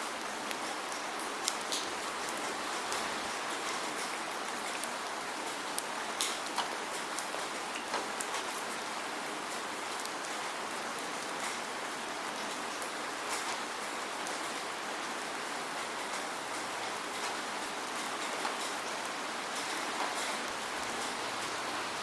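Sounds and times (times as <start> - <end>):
steady rain hiss: 0.0 - 22.0
raindrops ticking on surface: 0.1 - 22.0.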